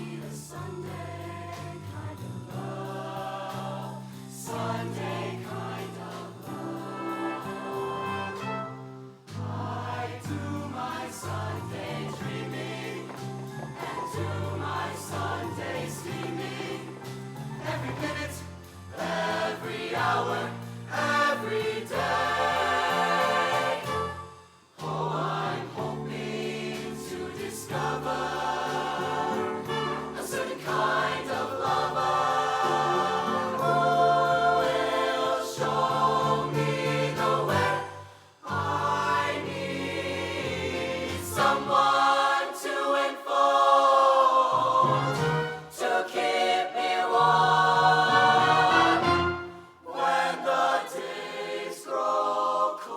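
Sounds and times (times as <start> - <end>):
choir singing in harmony: 0.0 - 52.9.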